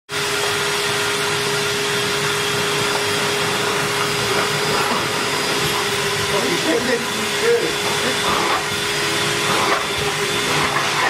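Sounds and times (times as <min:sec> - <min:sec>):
vacuum cleaner motor running: 0:00.1 - 0:11.0.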